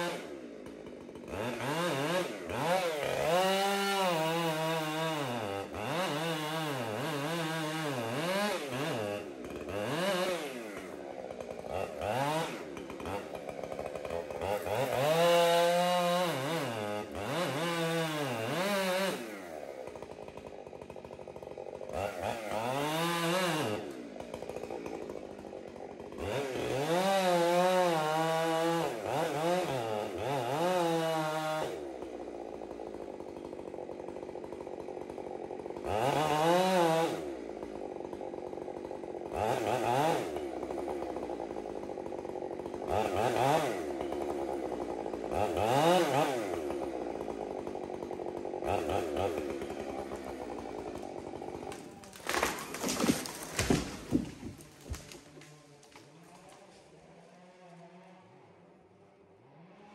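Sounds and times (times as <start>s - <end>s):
chainsaw revving and idling: 0.0s - 59.9s.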